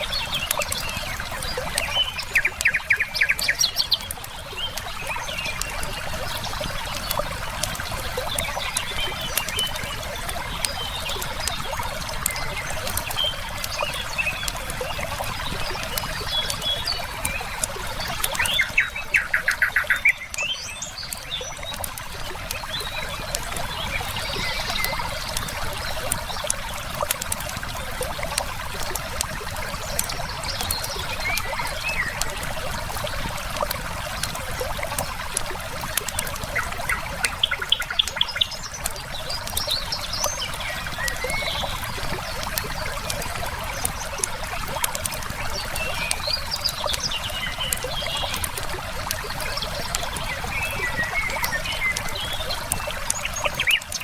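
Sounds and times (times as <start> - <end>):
birdsong: 0.0 - 54.0
fire crackling: 0.0 - 54.0
river water flowing: 0.0 - 54.0.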